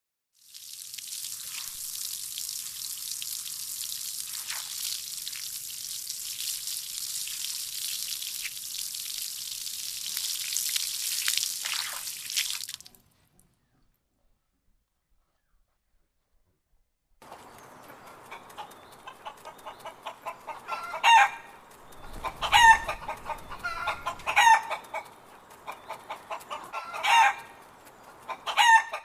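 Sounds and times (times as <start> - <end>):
sizzling crackling hiss with pops: 0.4 - 12.8, 17.2 - 28.6.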